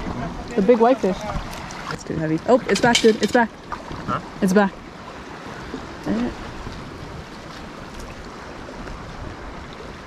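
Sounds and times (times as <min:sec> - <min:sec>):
seawater lapping on rocky shore: 0:00.0 - 0:10.0.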